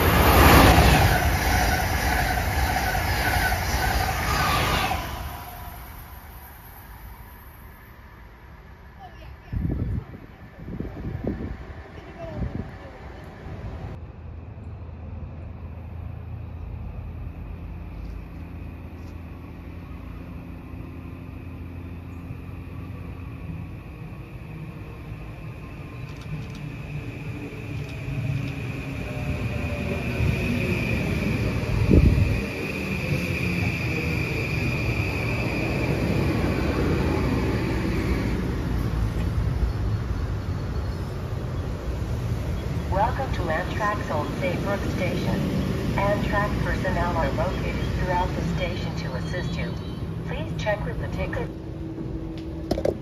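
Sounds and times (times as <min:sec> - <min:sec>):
distant train rumble: 0:00.0 - 0:53.0.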